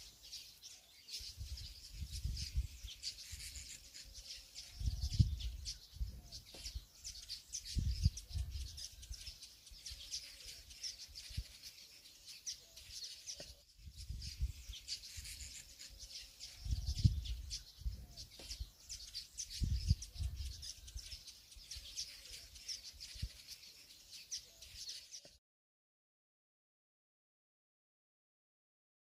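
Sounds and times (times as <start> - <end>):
small birds chirping: 0.0 - 25.4.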